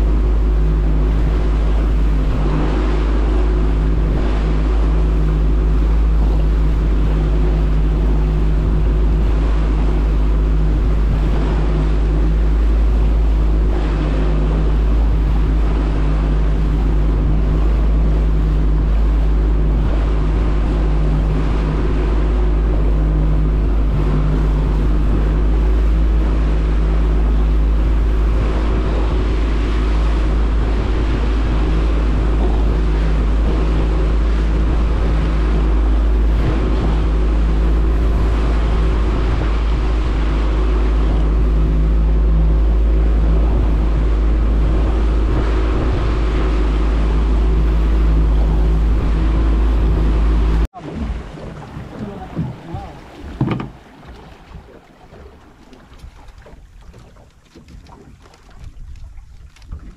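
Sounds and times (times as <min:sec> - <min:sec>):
outboard motor running: 0:00.0 - 0:59.9
water noise: 0:00.0 - 0:59.9
wind: 0:00.0 - 0:59.9.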